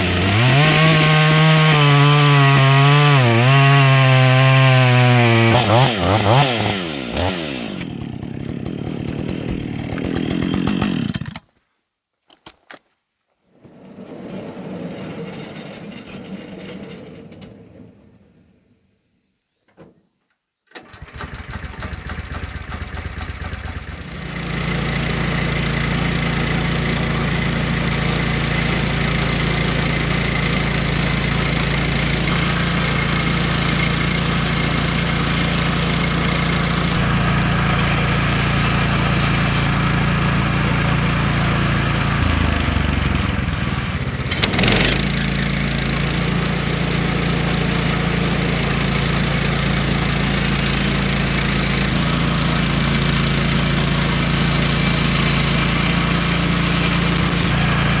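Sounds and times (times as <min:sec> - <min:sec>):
engine running: 0:00.0 - 0:10.2, 0:21.0 - 0:58.0
chainsaw winding down: 0:00.0 - 0:11.5, 0:20.7 - 0:58.0.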